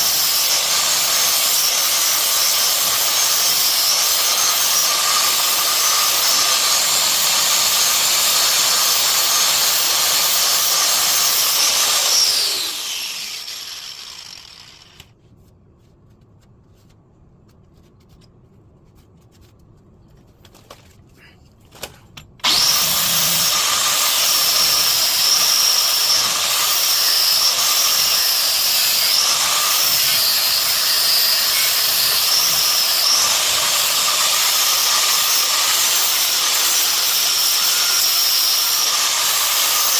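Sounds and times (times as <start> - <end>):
power tool cutting steel: 0.0 - 15.1, 22.4 - 39.9.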